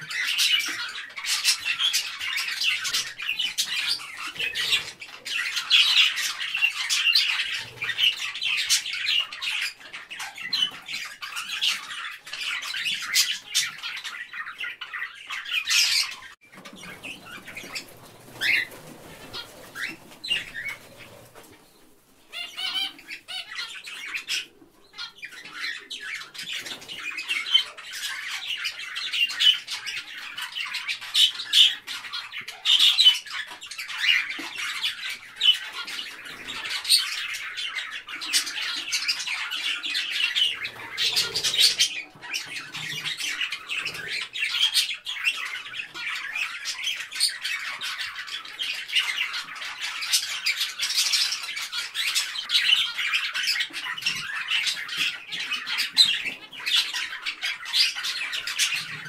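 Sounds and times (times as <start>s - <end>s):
budgerigars chattering and chirping: 0.0s - 59.0s.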